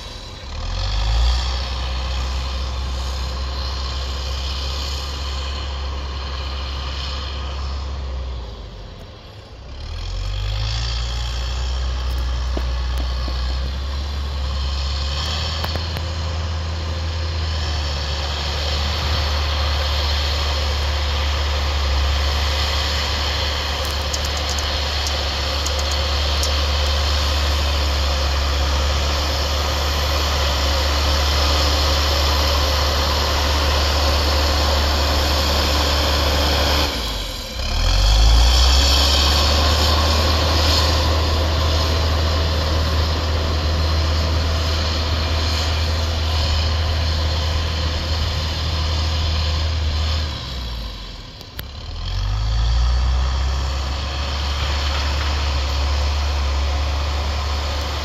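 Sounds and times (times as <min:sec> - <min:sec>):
diesel backhoe engine revving: 0:00.0 - 0:58.0.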